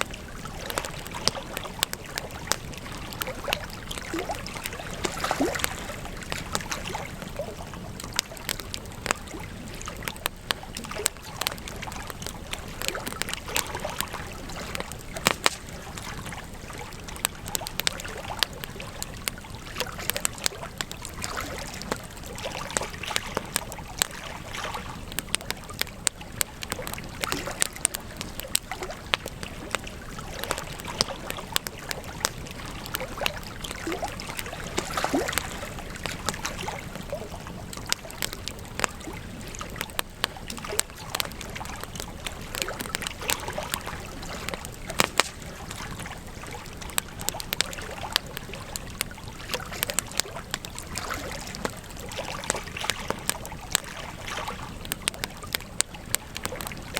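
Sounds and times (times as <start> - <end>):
campfire wood crackling: 0.0 - 56.9.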